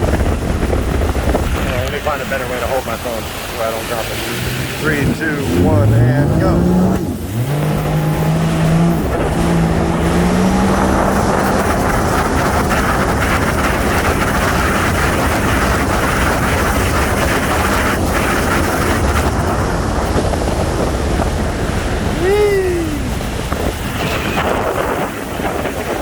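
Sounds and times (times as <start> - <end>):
jet ski engine at full throttle: 0.0 - 26.0
rush of wind and water: 0.0 - 26.0.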